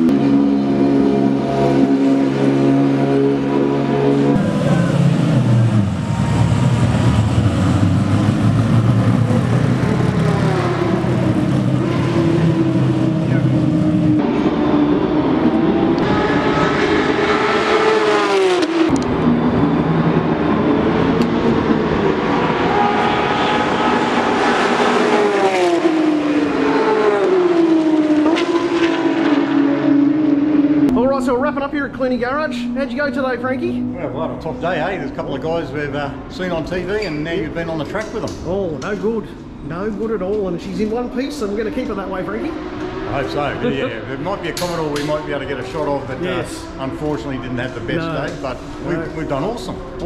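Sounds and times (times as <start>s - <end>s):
high-revving race car engine: 0.0s - 31.5s, 40.9s - 50.0s
deep race car engine rumble: 0.0s - 50.0s.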